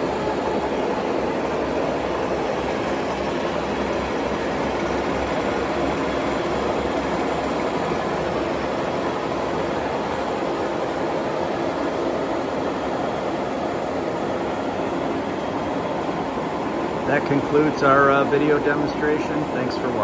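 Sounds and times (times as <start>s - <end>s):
lathe running: 0.0s - 20.0s.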